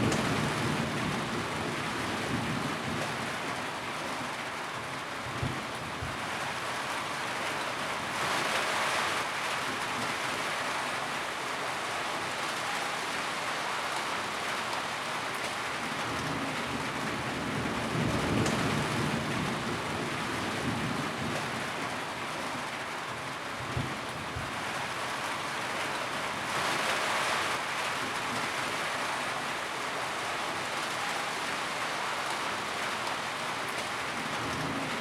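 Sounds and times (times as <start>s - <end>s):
rain drumming on a tin roof: 0.0s - 35.0s.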